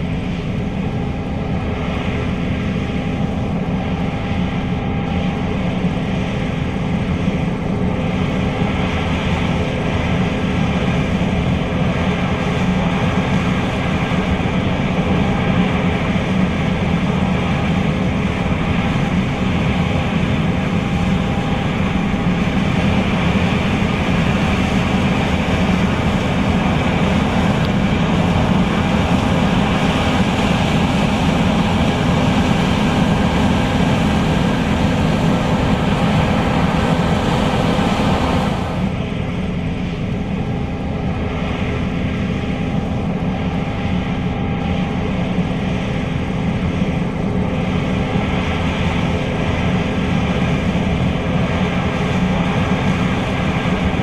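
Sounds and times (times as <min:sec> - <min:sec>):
combine harvester engine droning: 0:00.0 - 0:54.0.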